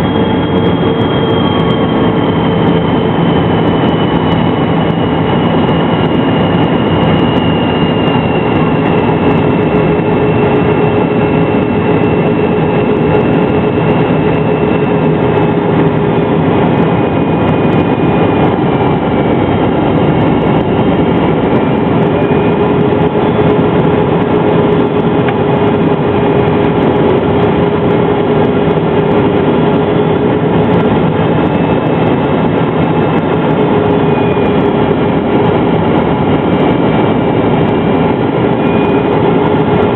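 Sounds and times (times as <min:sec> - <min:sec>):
thin whining tones: 0:00.0 - 0:37.3
jet engines roaring: 0:00.0 - 0:39.9.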